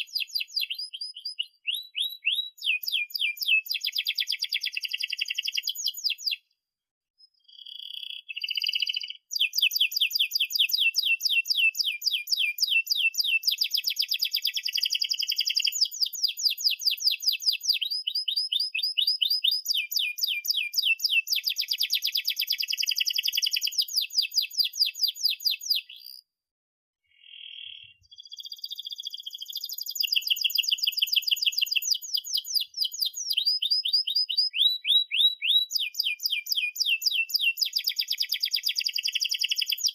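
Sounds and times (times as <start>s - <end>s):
canary singing trills: 0.0s - 6.4s, 7.2s - 26.3s, 27.1s - 39.9s.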